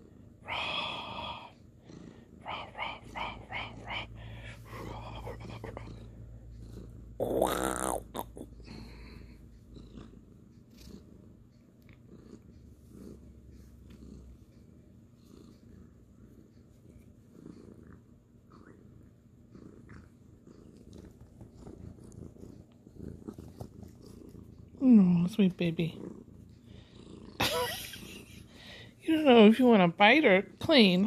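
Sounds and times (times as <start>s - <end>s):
kitten purring: 0.0s - 28.6s.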